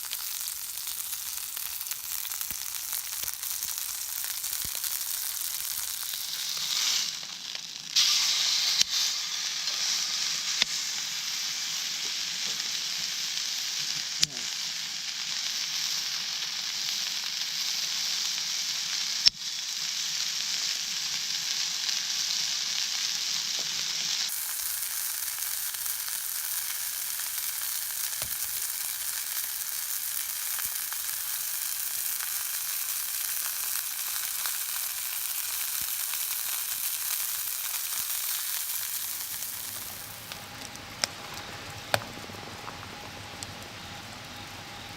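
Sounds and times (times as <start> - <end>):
steak sizzling in a skillet: 0.0 - 42.0.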